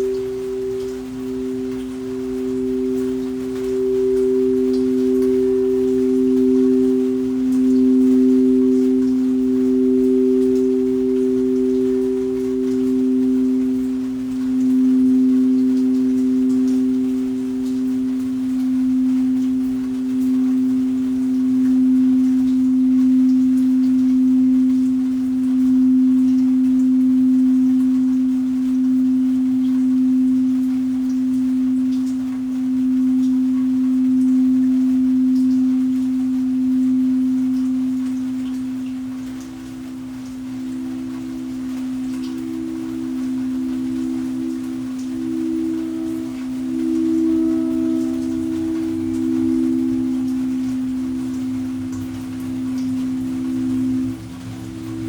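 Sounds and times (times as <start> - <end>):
singing bowl low tone: 0.0 - 55.0.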